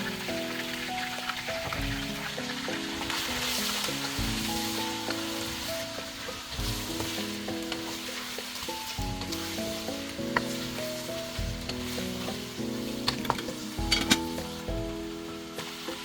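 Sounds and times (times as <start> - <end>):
food sizzling in a pan: 0.0 - 16.0
soft background music: 0.0 - 16.0.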